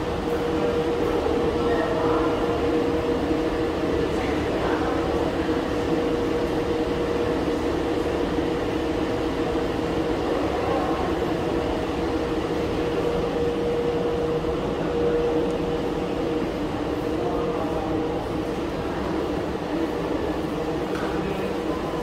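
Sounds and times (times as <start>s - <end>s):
subway platform rumble and hum: 0.0s - 22.0s.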